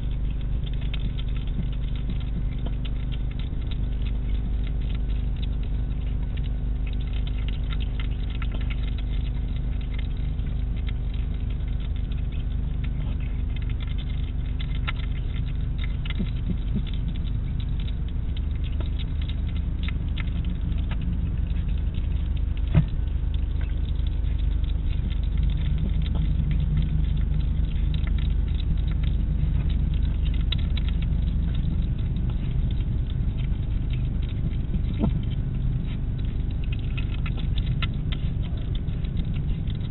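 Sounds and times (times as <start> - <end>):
hedgehog chewing clicks and crunches: 0.0 - 39.9
low electrical hum: 0.0 - 39.9.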